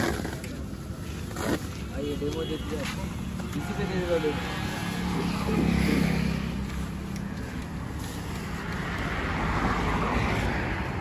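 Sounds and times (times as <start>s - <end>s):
road traffic: 0.0s - 11.0s
vehicle engine humming: 0.0s - 11.0s.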